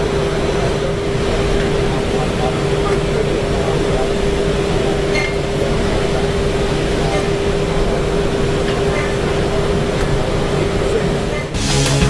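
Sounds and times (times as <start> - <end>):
machine hum with constant tone: 0.0 - 12.0
murmur of voices: 0.0 - 12.0.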